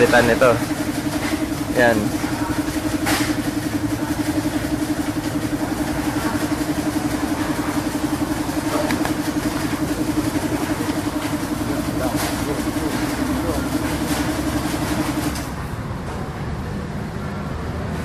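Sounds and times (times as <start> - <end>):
engine idling: 0.0 - 15.7.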